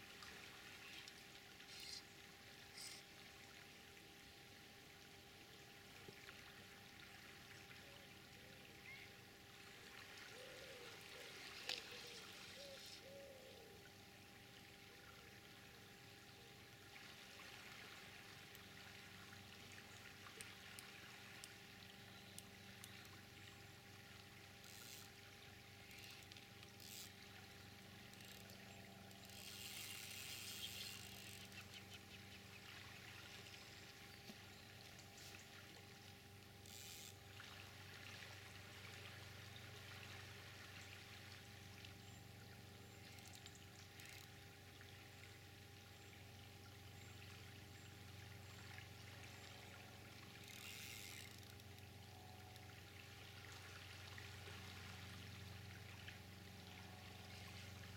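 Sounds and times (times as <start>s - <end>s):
faint flowing river: 0.0s - 57.9s.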